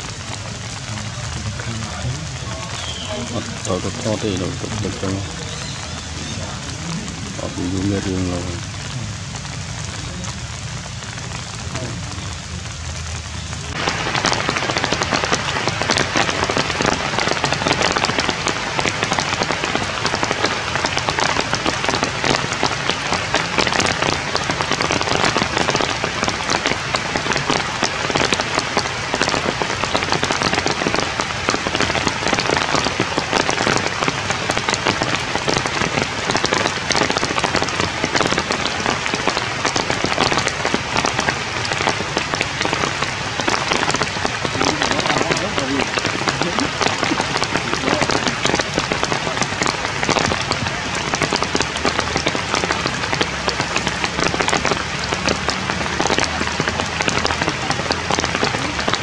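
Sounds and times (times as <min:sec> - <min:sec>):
rain on leaves and wet ground: 0:00.0 - 0:59.0.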